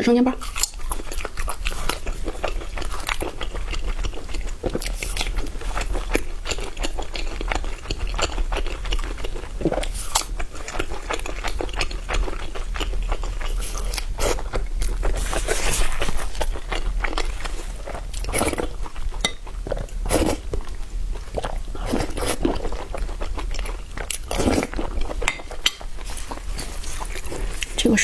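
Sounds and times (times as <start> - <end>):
person chewing crunchy food: 0.4 - 27.8.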